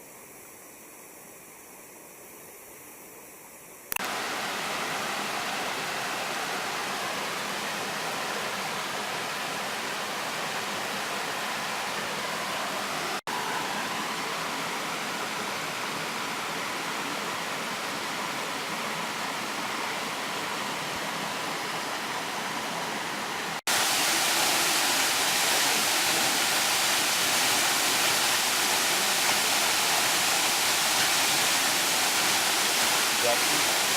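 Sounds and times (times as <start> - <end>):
waterfall rushing: 4.0 - 33.9.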